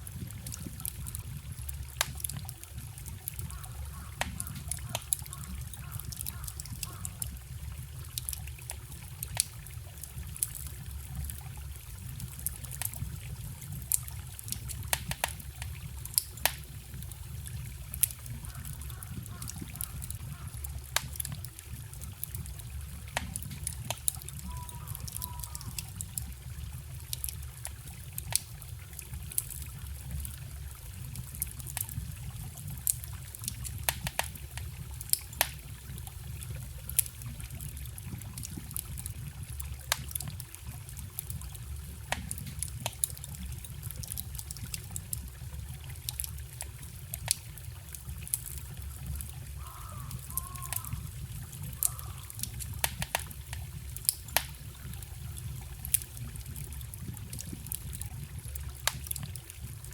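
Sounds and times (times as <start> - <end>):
campfire crackling and popping: 0.0 - 59.9
stream trickling: 0.0 - 59.9.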